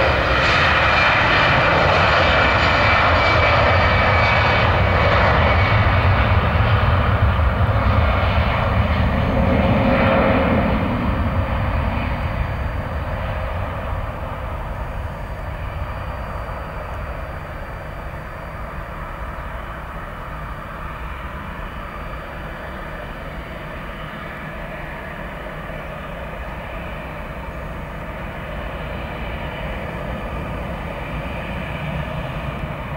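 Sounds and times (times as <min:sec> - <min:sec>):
jet engines at takeoff power: 0:00.0 - 0:32.9.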